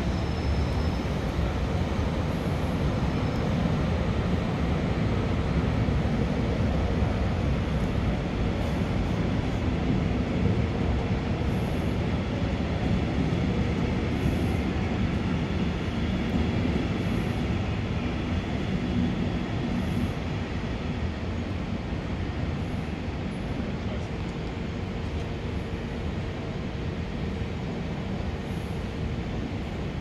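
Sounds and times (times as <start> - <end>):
faint train hum: 0.0 - 30.0.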